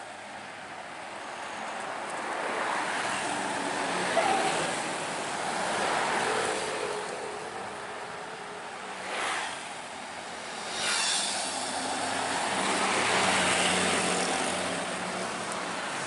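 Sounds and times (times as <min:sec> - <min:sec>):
bus passing: 0:00.0 - 0:16.0
motorcycles passing: 0:02.2 - 0:16.0.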